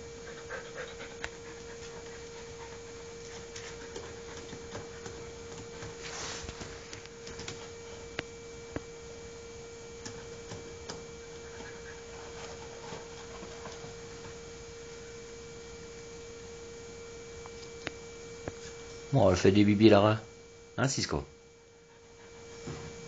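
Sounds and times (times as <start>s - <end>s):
steady mid-pitched hum: 0.0s - 23.0s.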